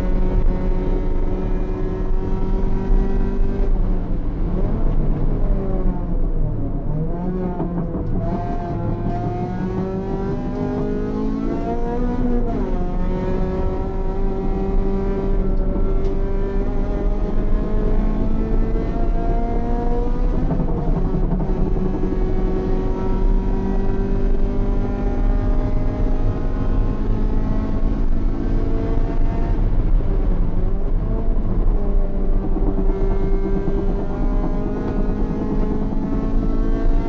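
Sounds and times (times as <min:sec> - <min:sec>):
race car engine: 0:00.0 - 0:37.0
road and wind noise: 0:00.0 - 0:37.0.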